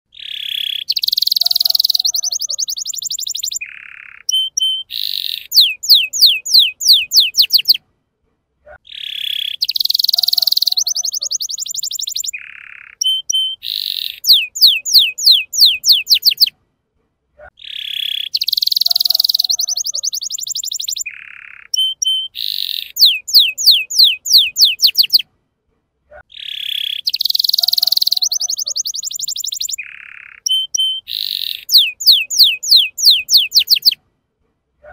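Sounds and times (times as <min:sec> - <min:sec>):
canary singing trills and whistles: 0:00.1 - 0:07.8, 0:08.8 - 0:16.5, 0:17.6 - 0:25.2, 0:26.3 - 0:34.0.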